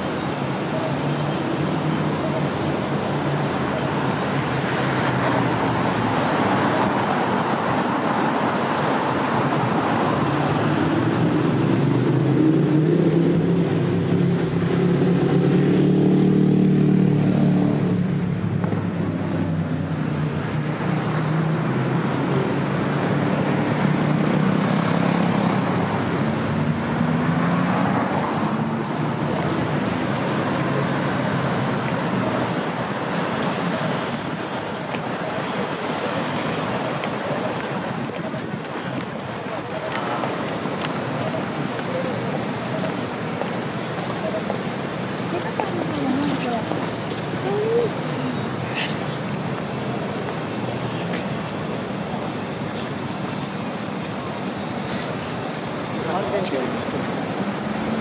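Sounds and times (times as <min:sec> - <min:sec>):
road traffic hum: 0:00.0 - 0:58.0.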